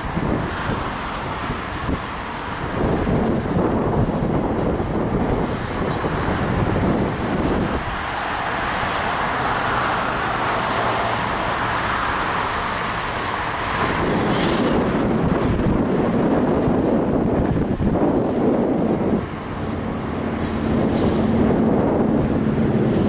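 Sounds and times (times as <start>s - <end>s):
road traffic passing: 0.0s - 23.0s
wind rumbling on microphone: 0.0s - 23.0s.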